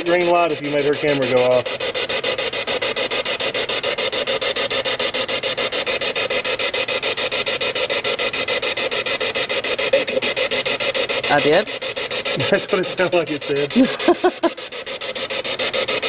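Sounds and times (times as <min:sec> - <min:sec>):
pulsing radio static: 0:00.0 - 0:14.7.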